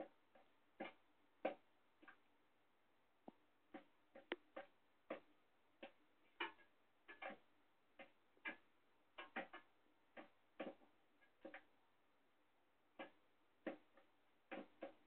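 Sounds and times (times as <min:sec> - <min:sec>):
beak tapping on glass: 0:00.0 - 0:02.3, 0:03.2 - 0:11.8, 0:12.9 - 0:15.0.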